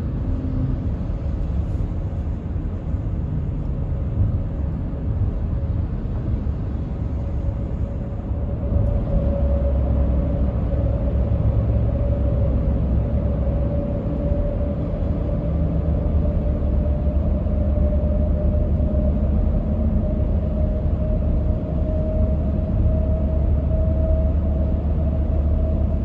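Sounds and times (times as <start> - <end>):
car rumbling at highway speed: 0.0 - 26.0.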